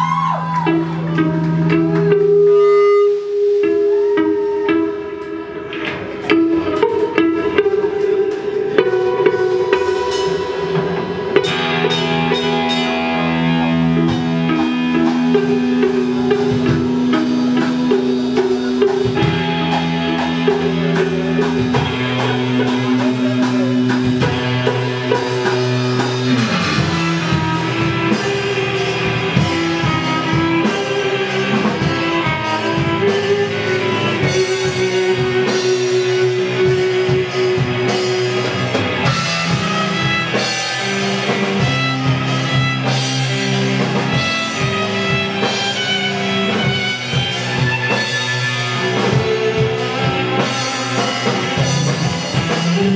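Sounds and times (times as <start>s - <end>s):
drum kit and cymbals: 0.0s - 52.9s
electric guitar droning: 0.0s - 52.9s.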